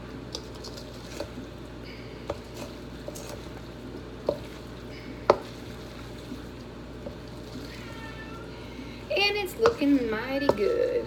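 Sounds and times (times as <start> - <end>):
potato salad squishing: 0.0 - 11.0.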